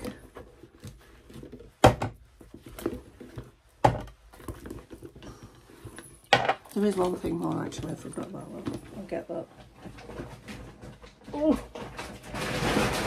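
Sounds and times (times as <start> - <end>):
items knocking together: 0.0 - 9.0, 9.6 - 13.0
rummaging in a bag: 0.0 - 13.0.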